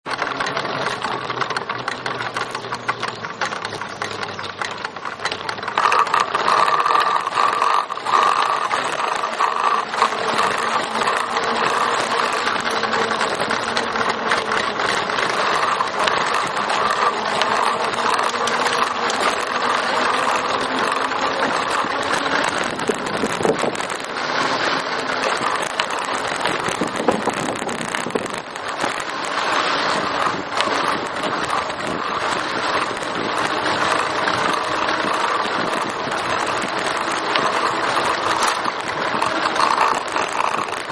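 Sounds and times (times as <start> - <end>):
trike rolling and rattling: 0.0 - 40.9.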